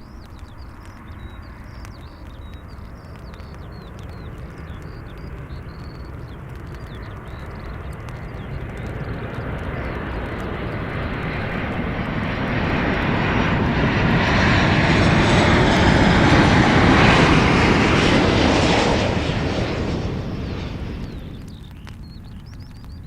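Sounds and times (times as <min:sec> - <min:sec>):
airliner engines roaring past: 0:00.0 - 0:23.0.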